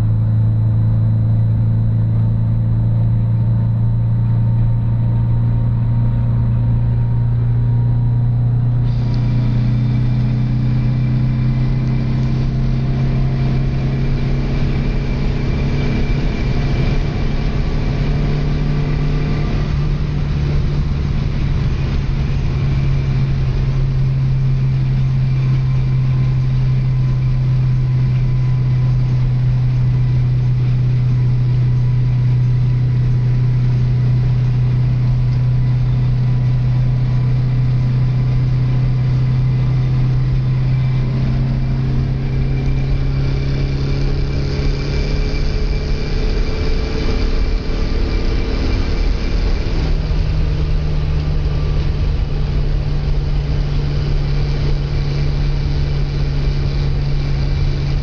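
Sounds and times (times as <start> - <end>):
car engine droning: 0.0 - 58.0
road and wind noise: 0.0 - 58.0.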